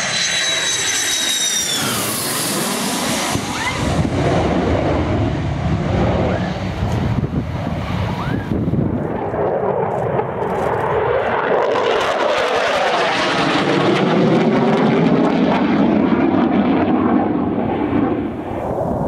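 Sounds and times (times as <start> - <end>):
military aircraft flying past: 0.0 - 19.0.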